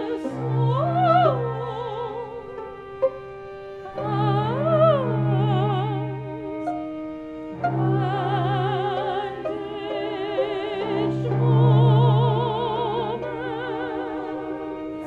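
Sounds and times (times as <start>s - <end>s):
low bowed strings: 0.0s - 15.0s
operatic singing with vibrato: 0.0s - 15.0s.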